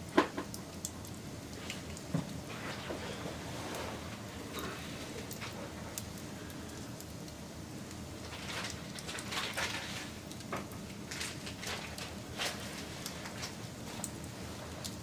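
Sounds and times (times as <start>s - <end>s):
burning wood crackling and popping: 0.0s - 15.0s
wood fire hissing: 0.0s - 15.0s.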